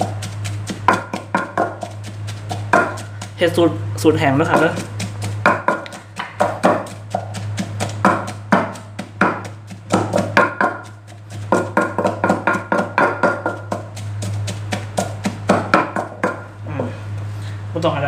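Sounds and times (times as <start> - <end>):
pestle pounding in mortar: 0.0 - 16.6.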